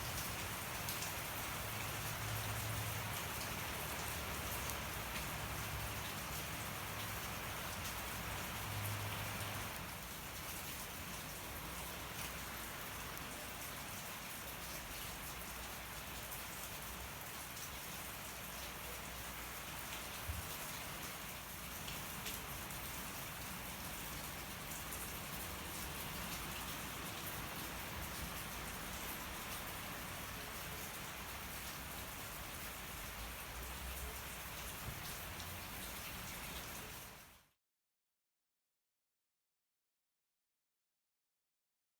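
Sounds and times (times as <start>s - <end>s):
steady rain falling: 0.0s - 37.5s.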